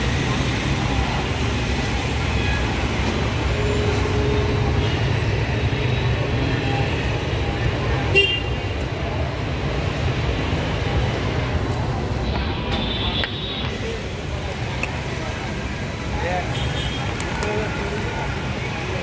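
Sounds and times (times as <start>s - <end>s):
rumble of traffic engines: 0.0s - 19.0s.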